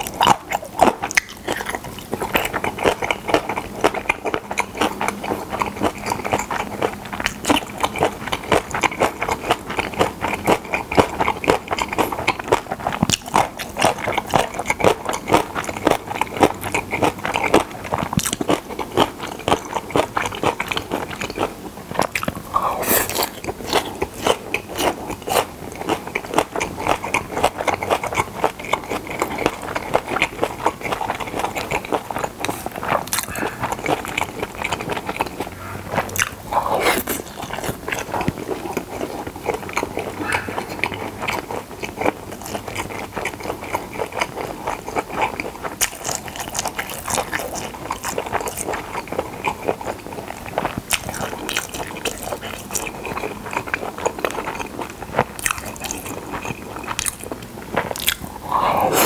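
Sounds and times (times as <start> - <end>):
mouth chewing clicks and crunches: 0.0 - 59.0.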